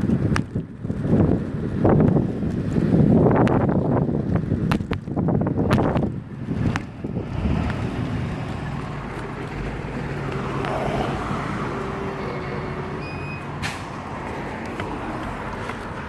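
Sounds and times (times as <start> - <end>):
road and wind noise hiss: 0.0 - 16.0
vehicle engine running: 0.1 - 13.6.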